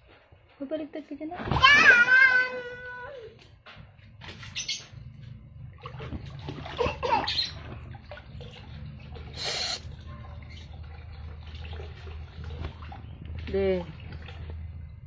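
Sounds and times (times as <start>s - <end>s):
water splashing in pool: 1.4s - 3.0s, 4.2s - 15.0s.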